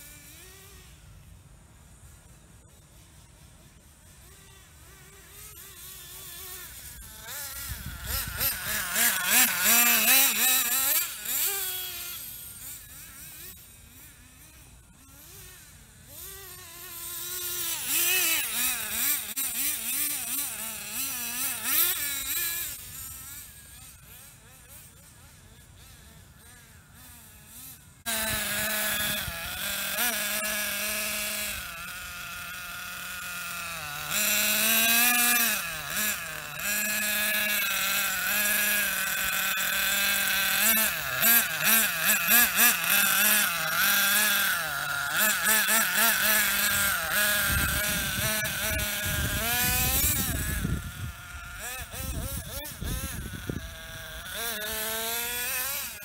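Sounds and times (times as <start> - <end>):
model buggy engine revving: 0.0 - 56.0.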